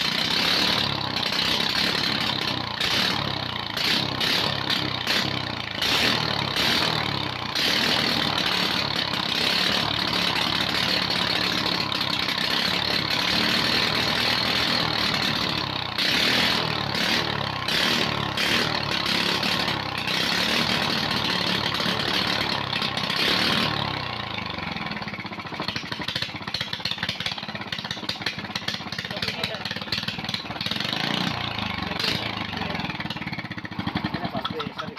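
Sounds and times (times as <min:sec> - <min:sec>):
four-stroke engine running: 0:00.0 - 0:34.9.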